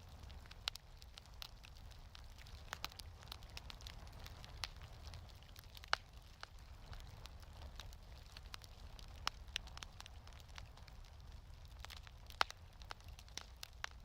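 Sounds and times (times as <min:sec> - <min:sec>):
low fire rumble: 0:00.0 - 0:14.0
wood fire popping and snapping: 0:00.0 - 0:14.0.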